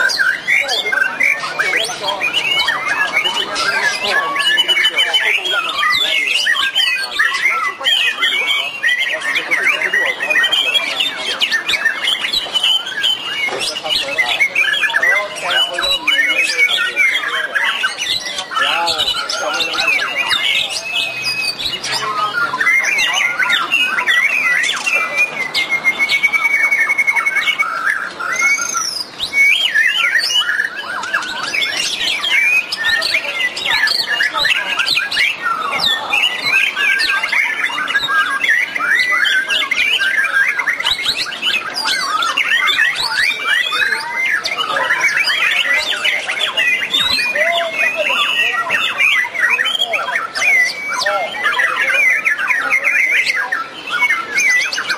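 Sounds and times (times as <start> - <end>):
long rapid bird trill: 0.0 - 54.9
songbirds singing in chorus: 0.0 - 54.9.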